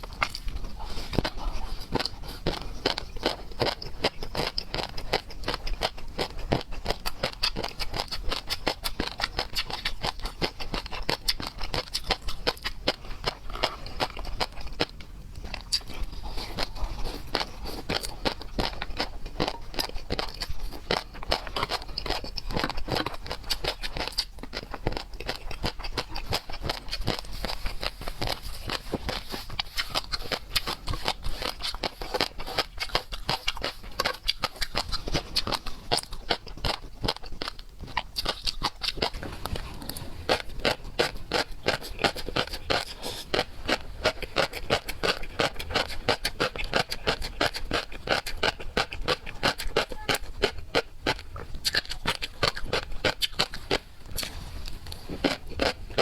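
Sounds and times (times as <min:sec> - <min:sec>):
chewing and slurping: 0:00.0 - 0:56.0.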